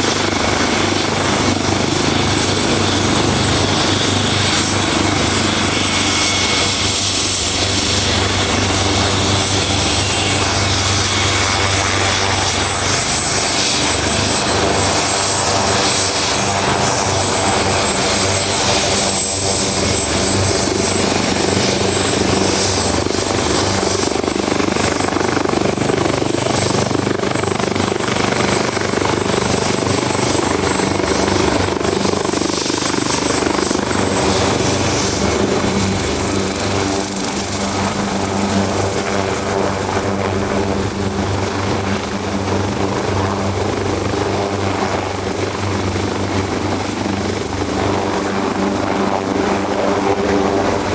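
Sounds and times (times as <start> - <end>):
helicopter running: 0.0 - 50.9.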